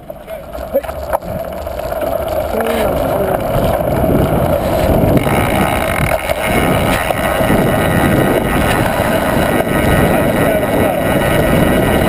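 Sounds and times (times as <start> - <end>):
bike tyres rolling on pavement: 0.0 - 12.0
wind buffeting microphone: 0.0 - 12.0.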